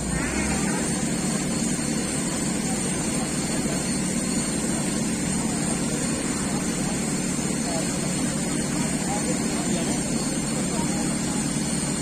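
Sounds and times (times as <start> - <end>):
crane engine droning: 0.0 - 12.0.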